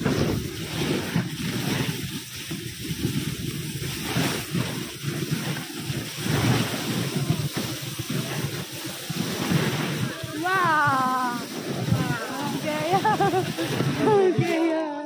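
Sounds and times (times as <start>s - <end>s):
wind buffeting microphone: 0.0s - 14.8s
sledge sliding on snow: 0.0s - 15.0s.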